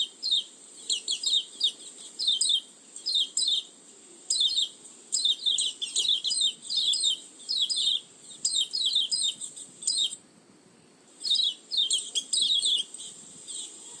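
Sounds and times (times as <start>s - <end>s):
high-pitched bird twittering: 0.0s - 3.7s, 4.3s - 10.2s, 11.2s - 13.8s.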